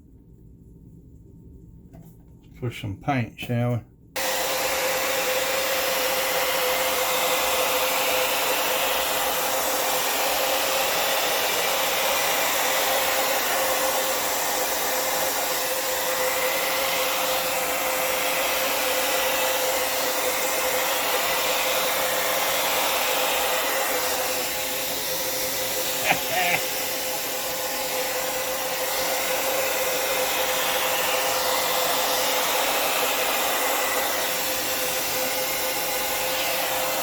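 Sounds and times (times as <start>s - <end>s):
hair dryer blowing: 4.2s - 37.0s.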